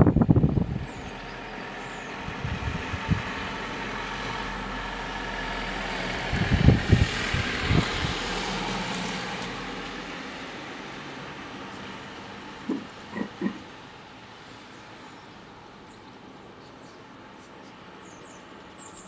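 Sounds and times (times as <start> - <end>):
road vehicle passing: 0.0 - 15.8.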